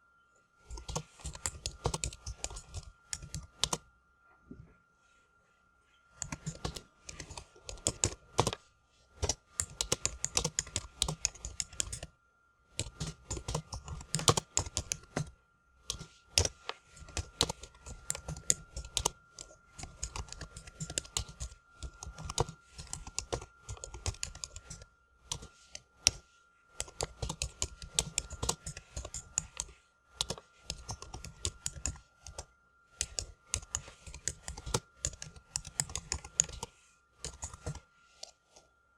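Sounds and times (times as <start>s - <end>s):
faint steady tone: 0.0s - 38.9s
keyboard typing: 0.7s - 3.8s, 6.2s - 8.6s, 9.2s - 12.1s, 12.8s - 26.2s, 26.8s - 37.9s.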